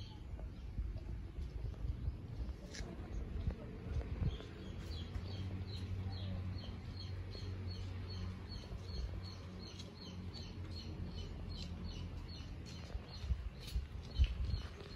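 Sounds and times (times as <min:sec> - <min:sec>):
small birds chirping: 0:01.6 - 0:14.9.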